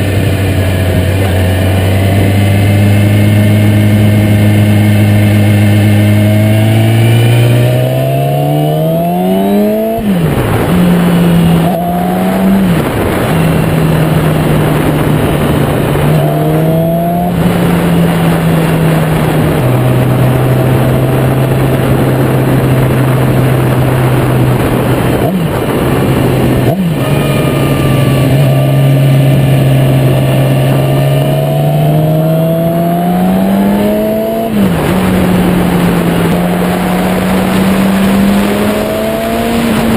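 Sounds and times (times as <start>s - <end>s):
motorcycle engine revving through gears: 0.0s - 39.9s
wind noise on microphone: 0.0s - 39.9s.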